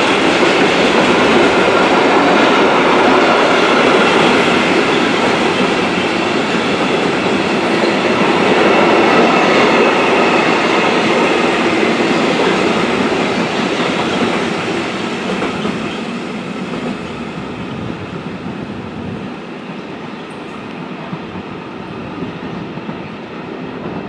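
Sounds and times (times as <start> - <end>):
freight train wheels on rails: 0.0 - 24.0.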